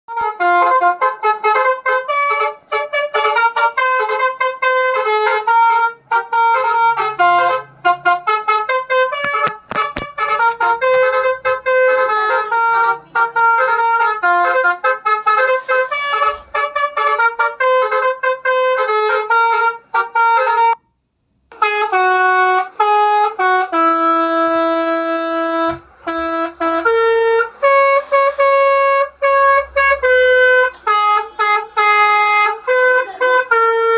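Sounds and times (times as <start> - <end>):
multi-tone musical horn melody: 0.1 - 20.9, 21.5 - 33.9.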